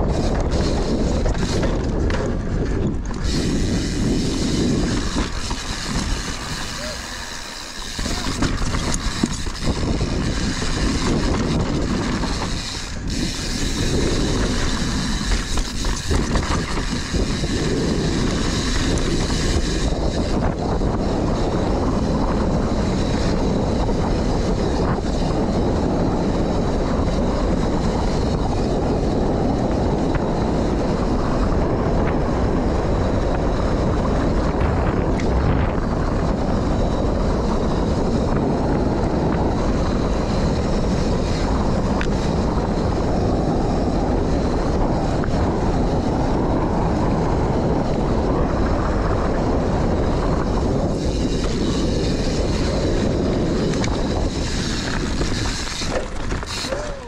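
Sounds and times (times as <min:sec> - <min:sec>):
bike knocking and rattling: 0:00.0 - 0:57.0
knobby tyres rumbling on dirt: 0:00.0 - 0:57.0
wind rushing over microphone: 0:00.0 - 0:57.0.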